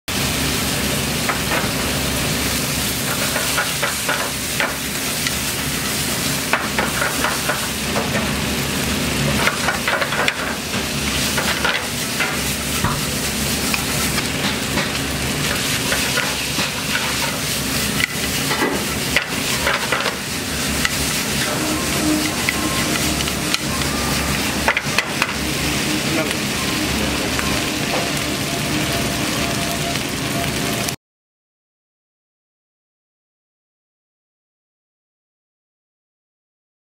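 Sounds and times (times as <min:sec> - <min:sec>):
food sizzling in a pan: 0:00.1 - 0:31.0.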